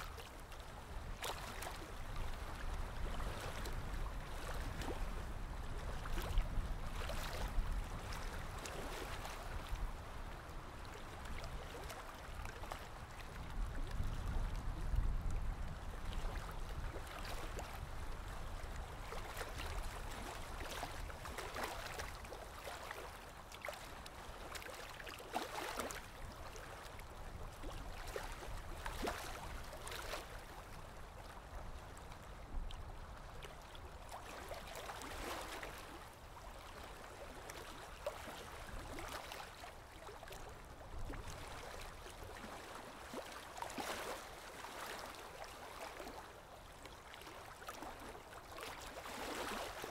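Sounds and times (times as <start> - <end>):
small water splashes: 0.0 - 49.9.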